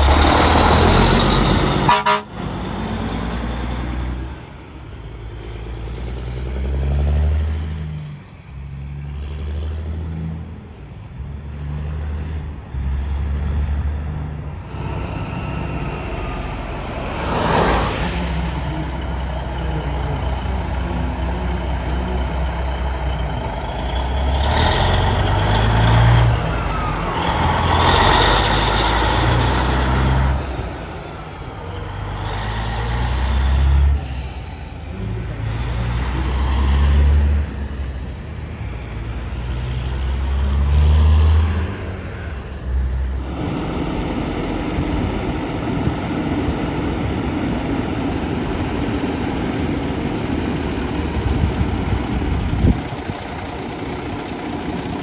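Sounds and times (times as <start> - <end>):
diesel truck engines shifting gears: 0.0 - 55.0
truck accelerating past: 0.0 - 55.0.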